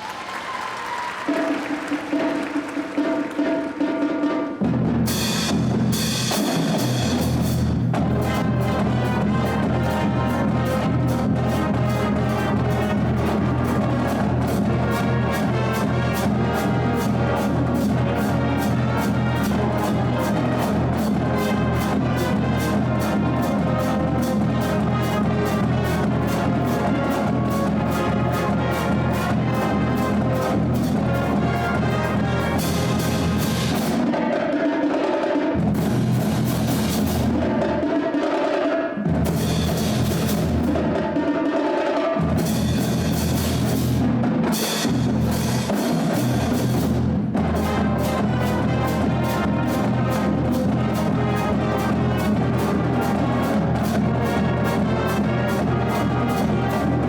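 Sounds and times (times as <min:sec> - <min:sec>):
brass: 0:00.0 - 0:57.0
percussion: 0:00.0 - 0:57.0.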